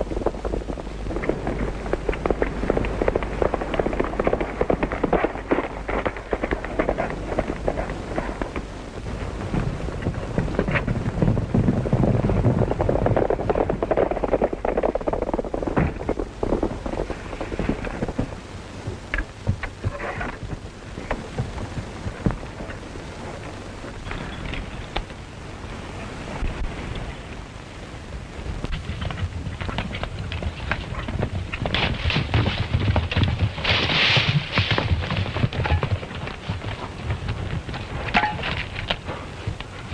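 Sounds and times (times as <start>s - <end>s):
galloping horse hooves: 0.0s - 39.9s
low rumble: 0.0s - 39.9s
old film soundtrack hiss: 0.0s - 39.9s.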